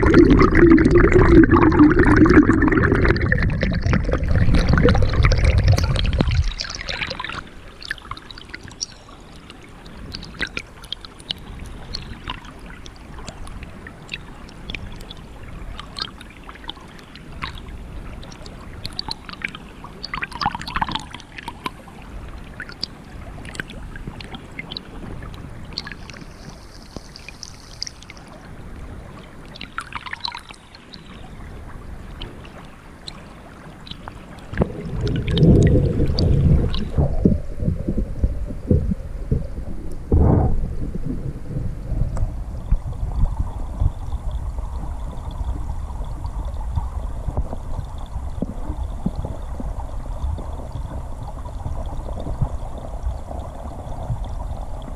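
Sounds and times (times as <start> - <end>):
small underwater clicks: 0.0 - 41.1, 41.8 - 54.9
underwater stream rumble: 0.0 - 54.9
water gurgle: 0.0 - 54.9.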